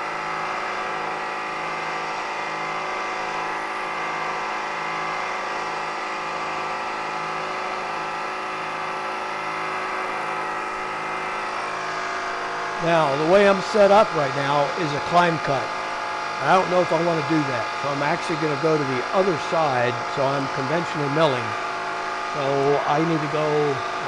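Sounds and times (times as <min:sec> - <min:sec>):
milling machine spindle whine: 0:00.0 - 0:24.0
pulsing low hum: 0:02.6 - 0:24.0.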